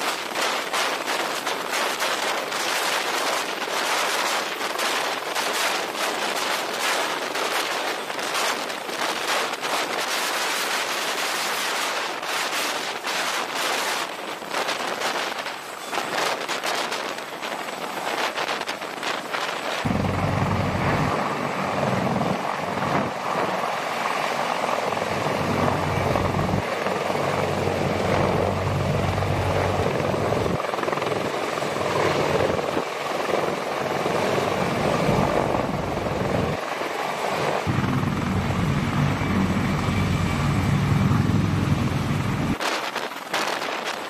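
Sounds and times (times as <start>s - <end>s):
helicopter rotor and engines: 0.0s - 44.0s.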